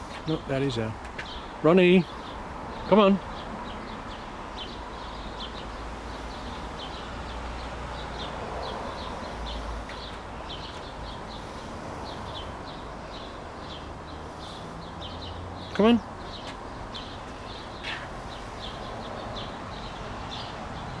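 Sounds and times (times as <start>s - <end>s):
small bird chirping: 1.2s - 20.9s.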